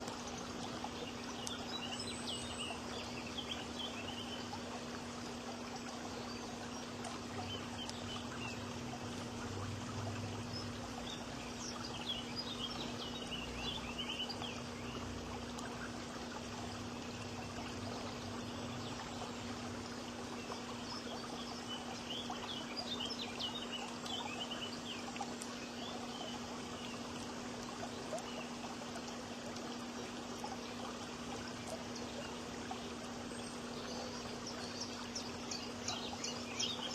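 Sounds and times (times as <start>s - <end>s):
birds twittering: 0.0s - 36.9s
rushing water: 0.0s - 36.9s.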